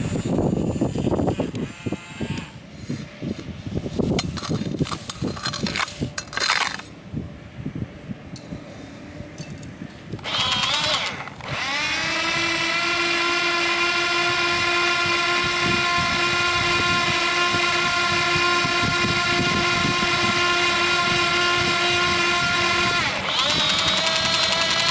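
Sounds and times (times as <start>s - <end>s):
electric motor whining: 0.0s - 6.8s, 10.2s - 24.9s.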